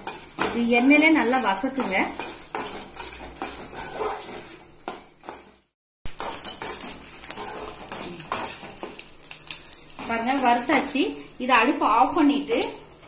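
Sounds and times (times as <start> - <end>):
steel spoon scraping a pan: 0.0 - 13.0.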